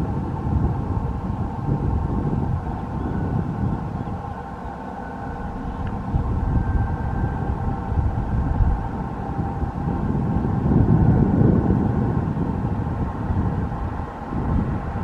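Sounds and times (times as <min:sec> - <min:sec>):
train wheels rumbling on rails: 0:00.0 - 0:15.0
wind on microphone: 0:00.0 - 0:15.0.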